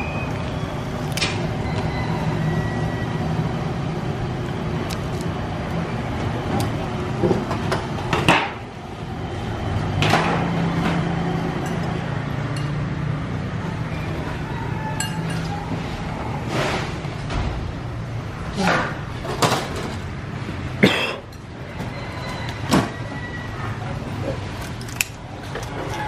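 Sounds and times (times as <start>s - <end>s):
street noise hum: 0.0s - 26.0s.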